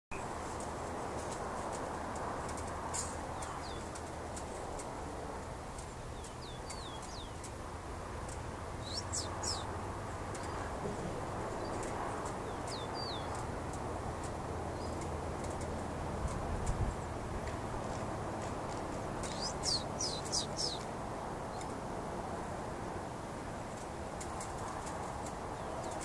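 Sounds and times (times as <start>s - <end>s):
sparrows calling: 0.1s - 21.9s, 23.7s - 26.0s
steady low background hum: 0.2s - 26.0s.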